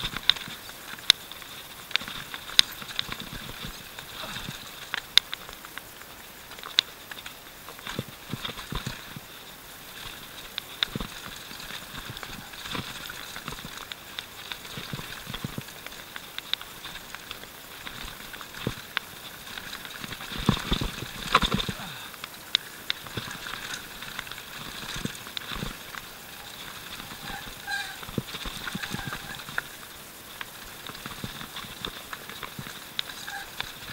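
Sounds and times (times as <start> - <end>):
bike knocking and rattling: 0.0 - 33.9
tyre and wind hiss: 0.0 - 33.9.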